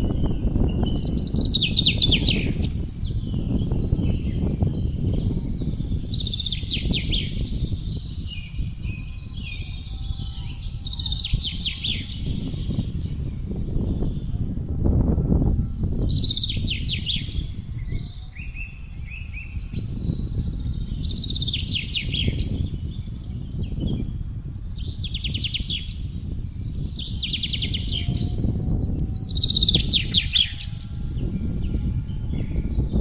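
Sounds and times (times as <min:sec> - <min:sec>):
songbird trilling: 0:00.0 - 0:33.0
wind gusting: 0:00.0 - 0:33.0.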